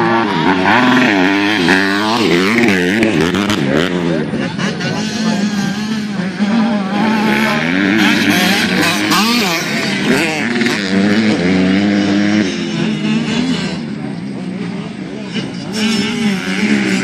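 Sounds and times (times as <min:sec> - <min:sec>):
motocross bikes revving: 0:00.0 - 0:17.0.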